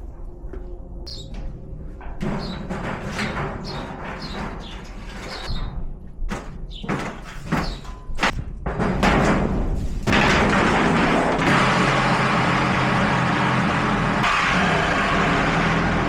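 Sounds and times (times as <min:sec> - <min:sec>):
sheet metal scraping and clattering: 0:02.0 - 0:16.0.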